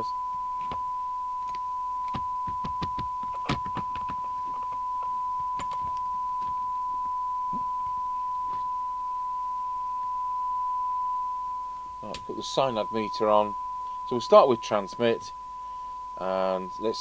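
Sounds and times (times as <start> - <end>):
steady test tone: 0.0 - 17.0.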